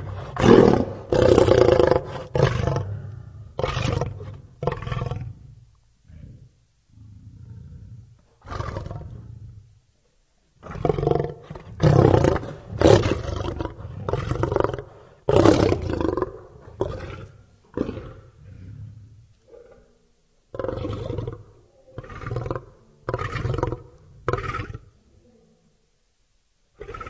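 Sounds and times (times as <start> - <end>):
lion roaring: 0.0 - 9.7, 10.6 - 24.9, 26.8 - 27.0.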